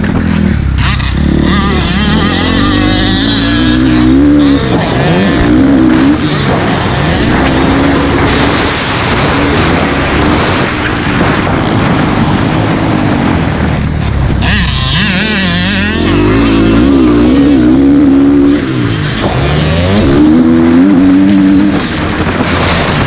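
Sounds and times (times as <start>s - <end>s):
dirt bike engine revving: 0.0s - 23.0s
wind noise: 0.0s - 23.0s.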